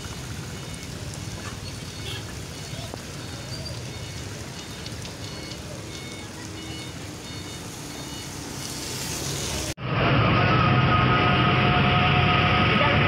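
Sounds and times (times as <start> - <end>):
roadside traffic noise: 0.0 - 13.0.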